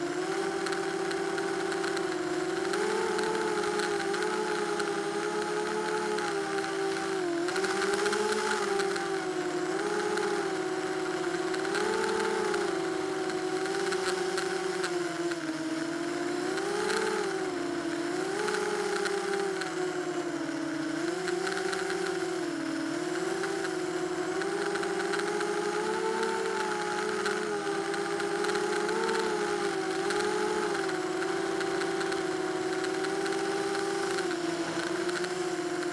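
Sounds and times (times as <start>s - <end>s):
drone motors whining: 0.0s - 35.9s.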